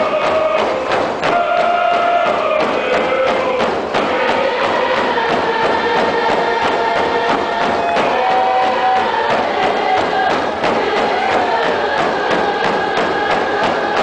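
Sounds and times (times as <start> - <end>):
group chanting in unison: 0.0 - 14.0
hand drums beating: 0.0 - 14.0.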